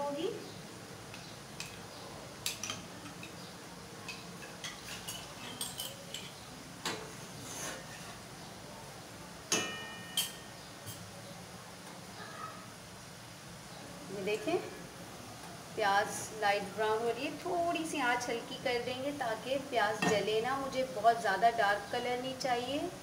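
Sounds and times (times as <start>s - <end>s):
onions frying in oil: 0.1s - 23.0s.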